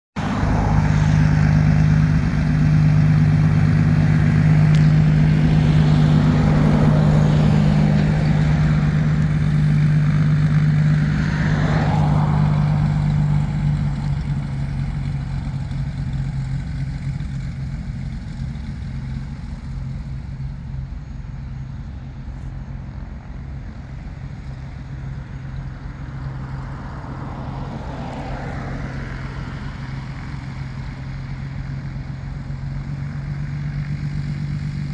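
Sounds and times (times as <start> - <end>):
propeller plane engines droning: 0.2 - 34.9.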